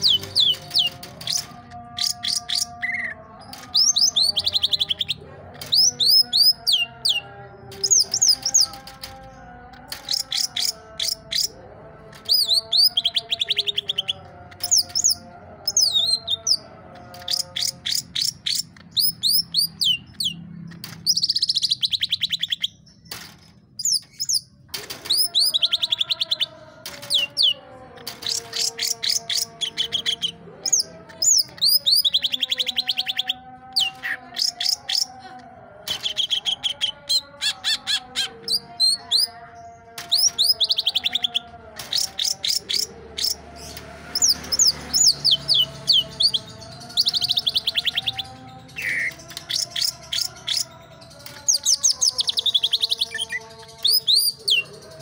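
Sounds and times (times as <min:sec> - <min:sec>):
bird fast high chattering song: 0:00.0 - 0:07.2, 0:09.9 - 0:11.6, 0:12.2 - 0:35.3, 0:40.0 - 0:55.0.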